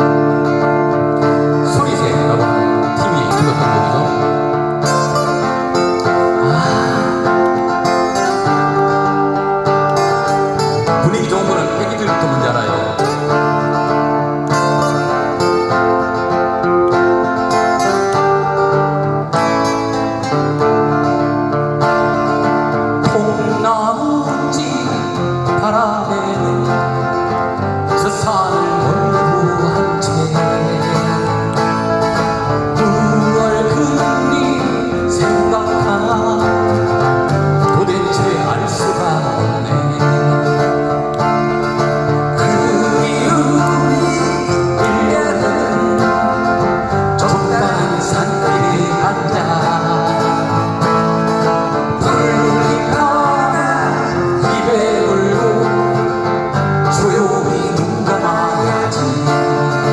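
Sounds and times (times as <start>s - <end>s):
live band with acoustic guitar: 0.0s - 59.9s.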